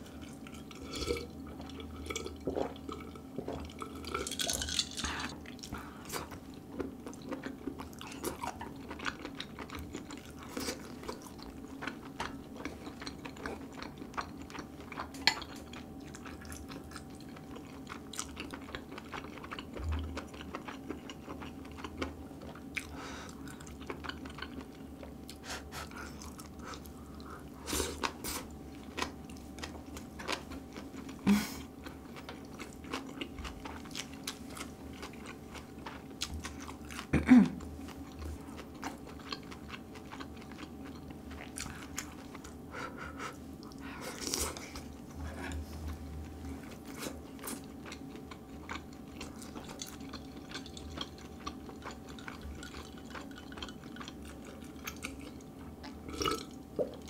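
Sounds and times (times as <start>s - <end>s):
close chewing mouth sounds: 0.0s - 57.0s
faint steady hum: 0.0s - 57.0s.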